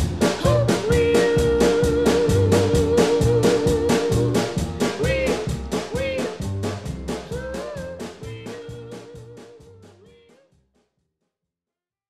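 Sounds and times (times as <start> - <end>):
upbeat background music: 0.0 - 10.3.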